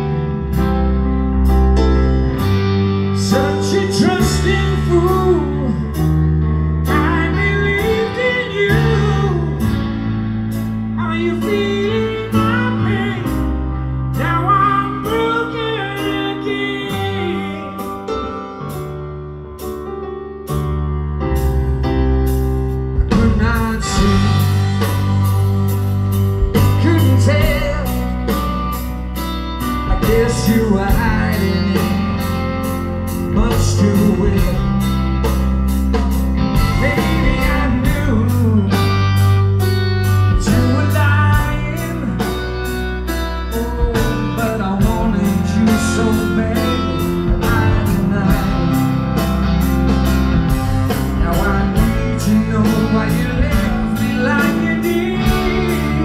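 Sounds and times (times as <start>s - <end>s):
bass guitar: 0.0s - 56.0s
drums: 0.0s - 56.0s
electric guitar: 0.0s - 56.0s
male lead vocal: 3.1s - 18.4s, 23.0s - 25.5s, 26.4s - 28.9s, 29.7s - 35.3s, 36.4s - 39.6s, 40.2s - 56.0s.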